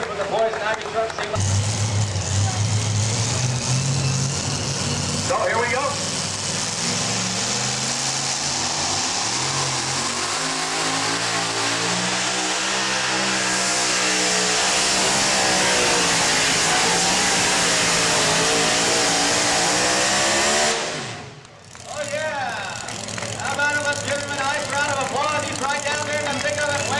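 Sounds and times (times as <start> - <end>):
truck engine at full throttle: 0.0 - 26.9.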